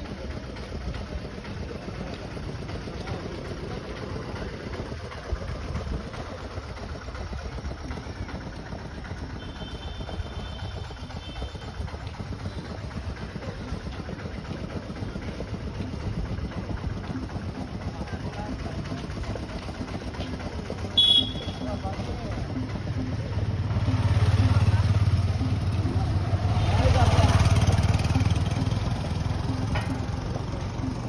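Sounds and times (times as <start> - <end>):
low rumble of city street: 0.0 - 31.0.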